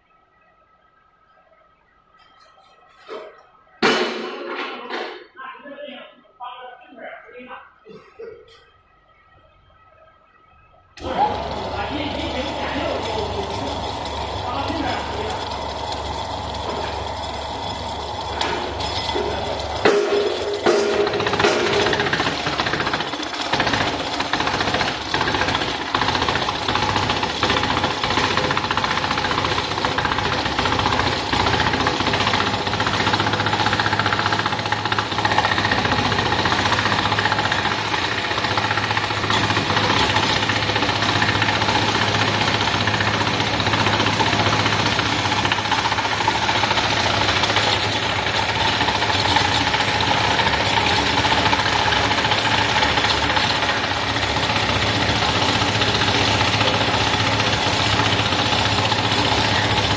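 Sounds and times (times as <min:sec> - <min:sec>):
clattering and knocking rollers: 0:02.2 - 0:05.3, 0:11.0 - 0:59.9
motor hum: 0:10.9 - 0:59.9.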